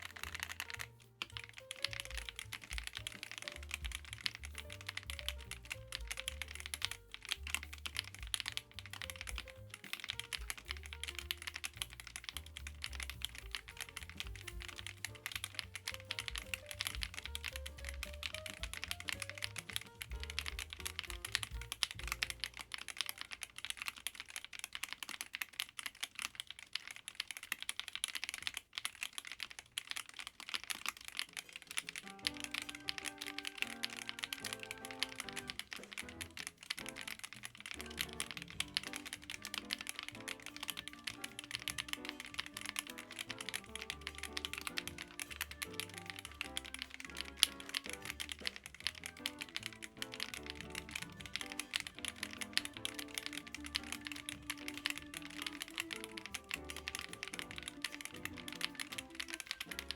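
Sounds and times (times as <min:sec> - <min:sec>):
background music: 0:00.0 - 0:23.7, 0:31.5 - 0:59.9
mechanical keyboard typing: 0:00.0 - 0:59.9.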